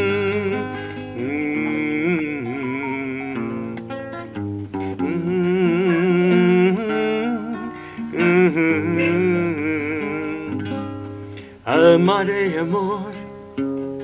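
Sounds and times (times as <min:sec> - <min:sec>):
man singing long notes: 0:00.0 - 0:03.9, 0:04.8 - 0:10.9, 0:11.6 - 0:13.3
acoustic guitar: 0:00.0 - 0:14.0.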